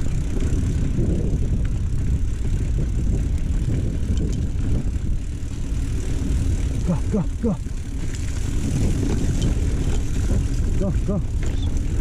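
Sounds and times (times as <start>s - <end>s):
bike rattling clicks: 0.0s - 12.0s
tyres rolling on loose dirt: 0.0s - 12.0s
wind buffeting microphone: 0.0s - 12.0s.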